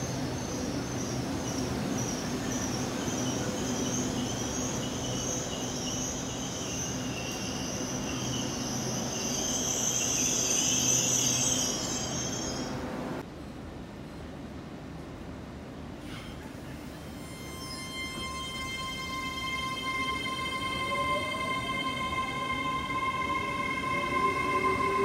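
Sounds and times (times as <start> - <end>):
train brakes squealing: 0.0 - 12.8, 16.0 - 25.0.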